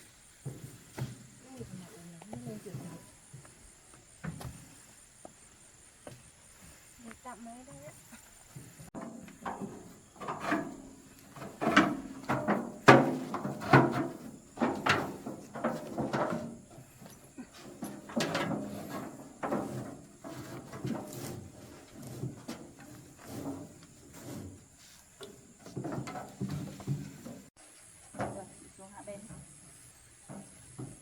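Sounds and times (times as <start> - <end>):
irregular knocks and thumps: 0.3 - 6.8, 8.4 - 27.5, 29.2 - 31.0.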